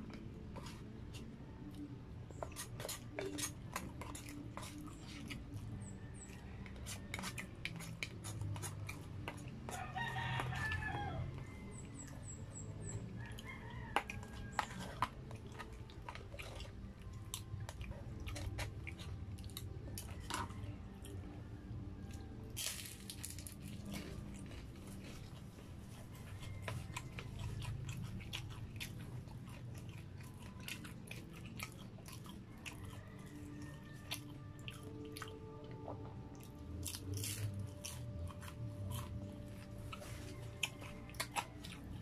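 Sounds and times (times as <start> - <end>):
biting and chewing: 0.0 - 42.0
low steady hum: 0.0 - 42.0.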